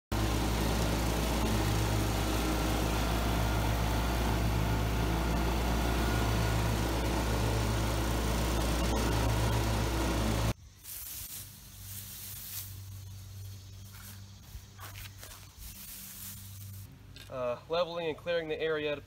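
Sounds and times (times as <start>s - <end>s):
riding lawn mower engine: 0.1s - 18.3s.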